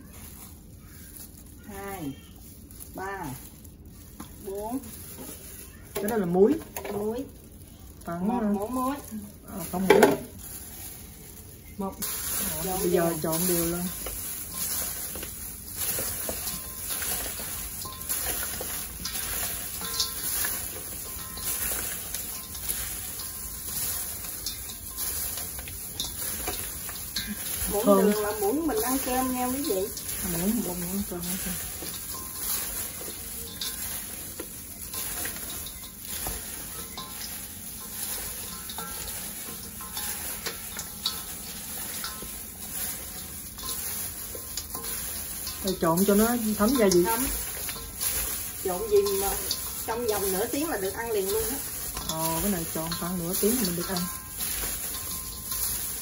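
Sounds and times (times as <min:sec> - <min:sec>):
chicken feet rustling in bowl: 0:00.0 - 0:56.0.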